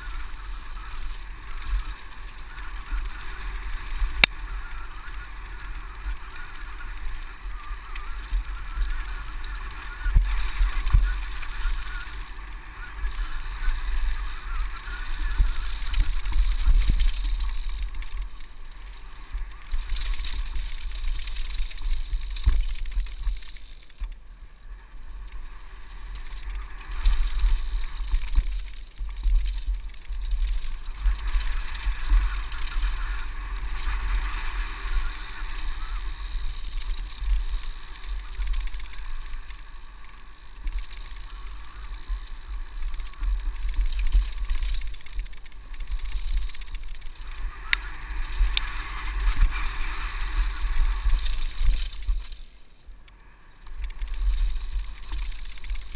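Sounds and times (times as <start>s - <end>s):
bike rattling: 0.0s - 55.9s
wind rumbling on microphone: 0.0s - 55.9s.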